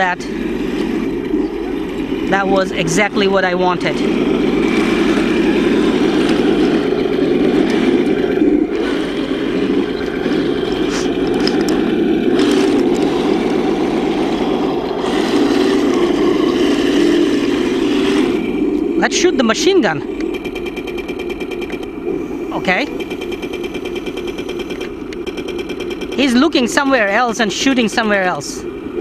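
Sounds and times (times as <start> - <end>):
simulated tank engine rumble: 0.0 - 29.0.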